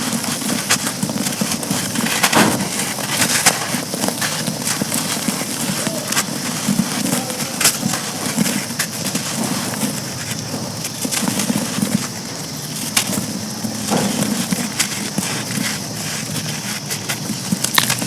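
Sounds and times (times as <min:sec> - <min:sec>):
charcoal crunching and grinding: 0:00.0 - 0:18.0
charcoal snapping: 0:00.1 - 0:09.5, 0:12.4 - 0:18.0.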